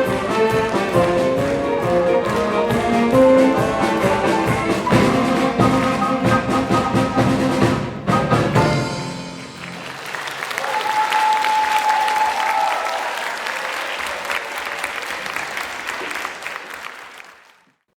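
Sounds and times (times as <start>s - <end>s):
audience applauding: 0.0s - 7.4s, 8.6s - 17.8s.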